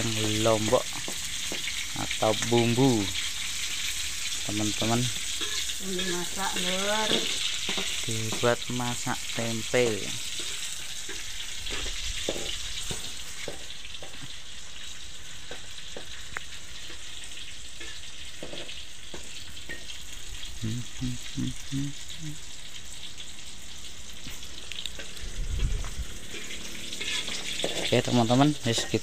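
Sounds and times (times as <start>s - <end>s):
chilies sizzling in oil: 0.0s - 29.0s.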